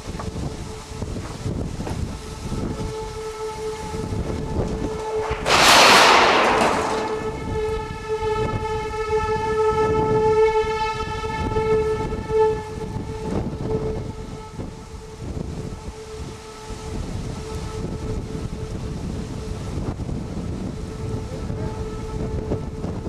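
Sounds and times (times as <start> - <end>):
rough low rumble: 0.0 - 23.0
horn-like tone: 0.6 - 23.0.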